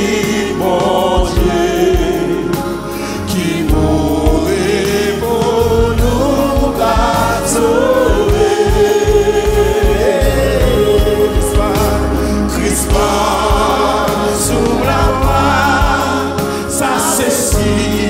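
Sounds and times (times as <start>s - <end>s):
choir singing a gospel hymn: 0.0s - 18.0s
instrumental backing music: 0.0s - 18.0s.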